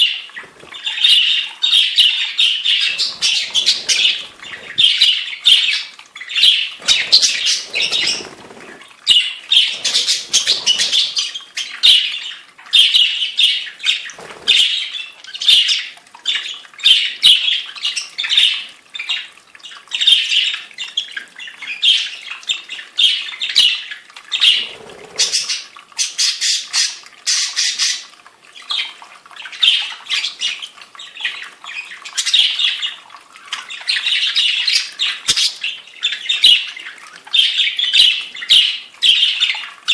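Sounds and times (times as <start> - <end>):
small birds chattering and squawking: 0.0 - 39.9.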